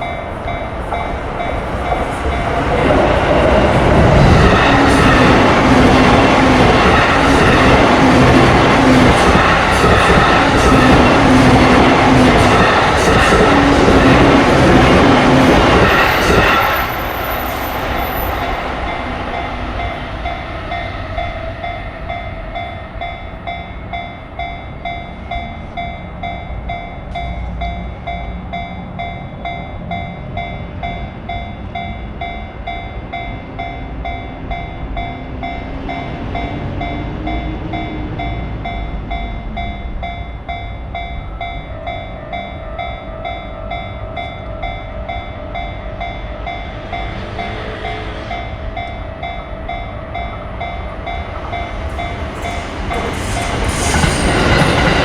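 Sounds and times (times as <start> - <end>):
train passing: 0.0 - 55.0
level crossing alarm bell: 4.2 - 55.0.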